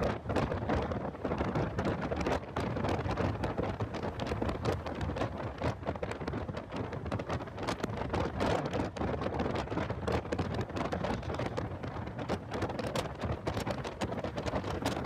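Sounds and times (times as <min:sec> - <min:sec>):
wind buffeting on microphone: 0:00.0 - 0:15.0.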